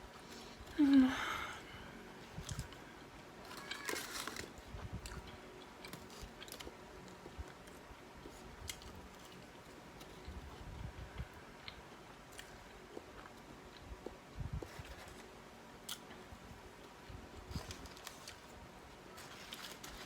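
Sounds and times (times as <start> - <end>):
chewing fried food: 2.2 - 20.0.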